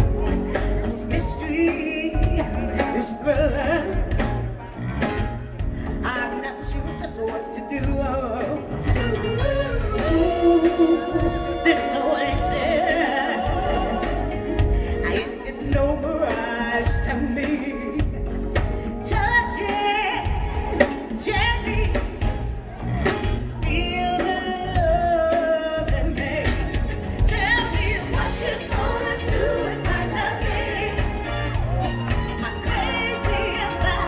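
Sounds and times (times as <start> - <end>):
woman singing: 0.0 - 4.6, 5.9 - 22.3, 23.6 - 34.0
bass and drum beat: 0.0 - 34.0.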